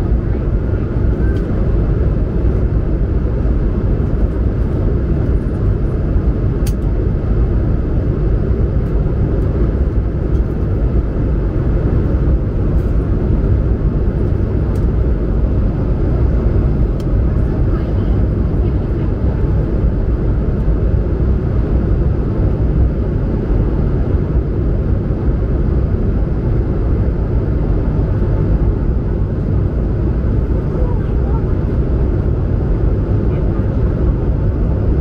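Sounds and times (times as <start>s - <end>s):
airliner cabin engine roar: 0.0s - 35.0s.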